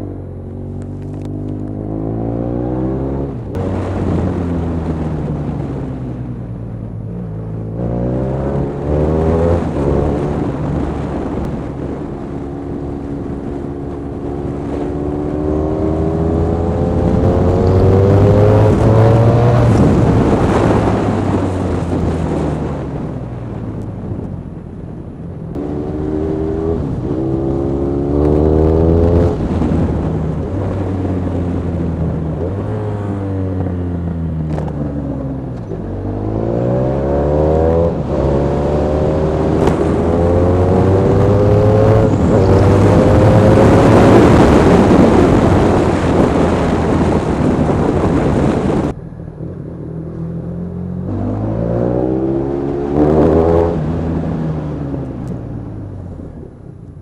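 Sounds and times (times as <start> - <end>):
motorcycle engine accelerating: 0.0 - 24.5, 25.4 - 57.0
wind rushing over microphone: 0.0 - 57.0.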